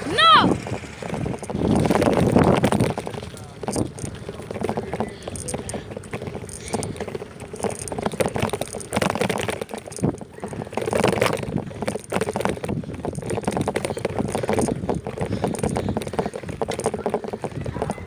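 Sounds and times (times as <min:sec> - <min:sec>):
bicycle clatter and rattle: 0:00.0 - 0:18.0
wind buffeting microphone: 0:00.0 - 0:18.0.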